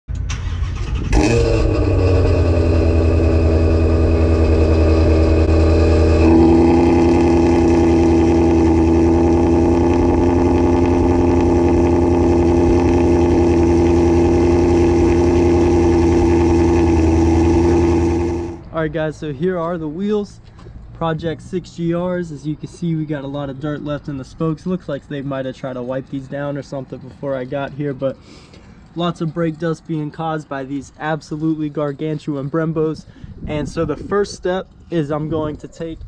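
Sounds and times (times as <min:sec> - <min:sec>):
car engine starting and idling: 0:00.1 - 0:34.0.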